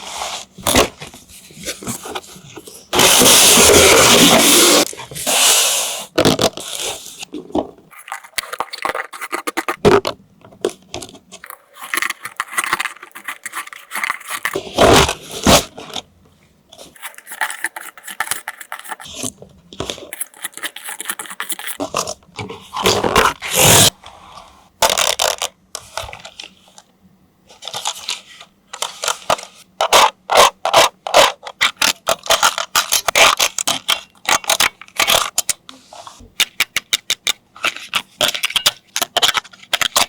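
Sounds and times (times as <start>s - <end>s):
packaging and plastic parts handled: 0.5s - 5.4s, 6.3s - 9.8s, 10.6s - 16.1s, 16.7s - 23.9s, 24.8s - 26.9s, 27.5s - 40.0s.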